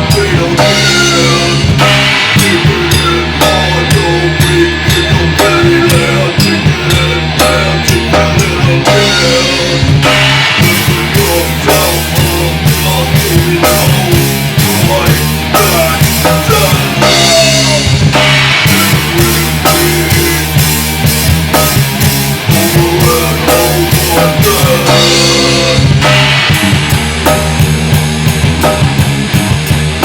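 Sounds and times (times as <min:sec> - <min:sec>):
heavy rock music: 0:00.0 - 0:30.0.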